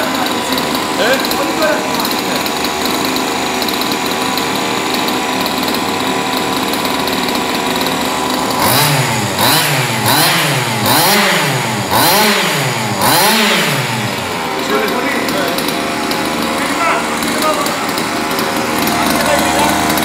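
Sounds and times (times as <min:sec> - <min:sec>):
small two-stroke engine idling and revving: 0:00.0 - 0:20.0.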